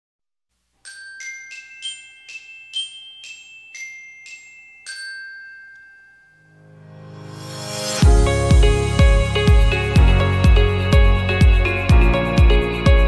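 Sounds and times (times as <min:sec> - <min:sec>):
bell-like chiming jingle: 0:00.8 - 0:13.0.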